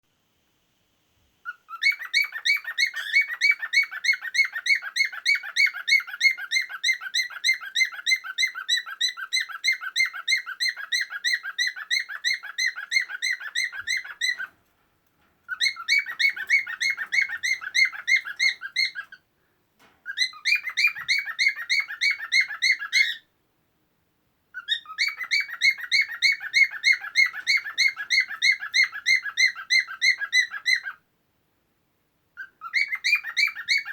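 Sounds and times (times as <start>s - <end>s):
cockatiel chirping song: 1.4s - 14.6s, 15.5s - 19.2s, 20.0s - 23.3s, 24.5s - 31.0s, 32.4s - 33.9s.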